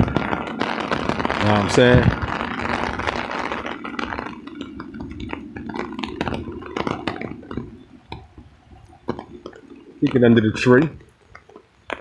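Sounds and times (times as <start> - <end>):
raindrops tapping on umbrella: 0.0 - 12.0.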